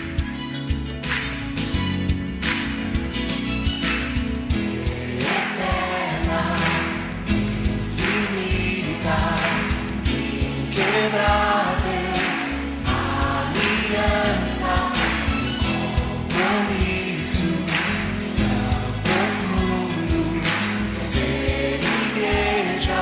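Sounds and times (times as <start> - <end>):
instrumental accompaniment with beat: 0.0 - 23.0
voices singing worship song: 4.5 - 23.0.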